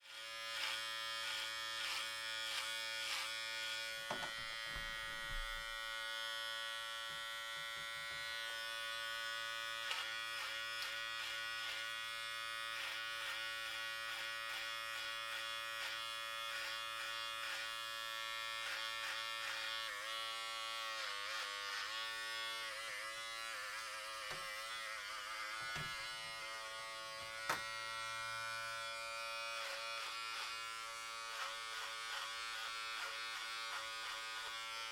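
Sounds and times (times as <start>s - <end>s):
electric hair clippers buzzing: 0.0s - 34.9s.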